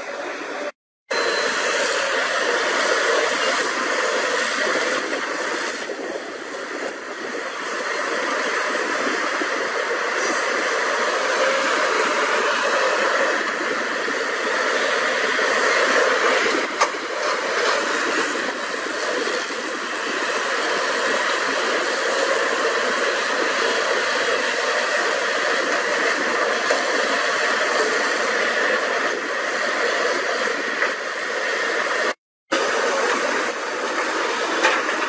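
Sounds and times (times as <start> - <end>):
excavator engines droning: 0.0 - 35.0.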